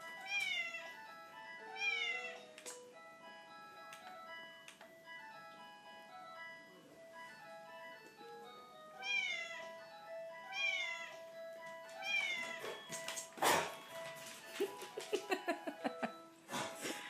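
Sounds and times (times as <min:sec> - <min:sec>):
music box tune: 0:00.0 - 0:17.0.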